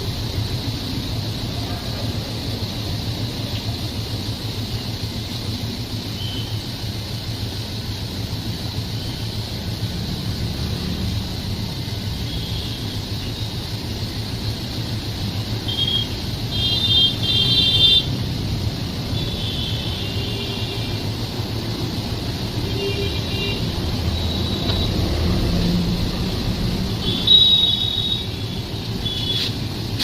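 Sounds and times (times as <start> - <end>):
moving train rumble: 0.0 - 30.0.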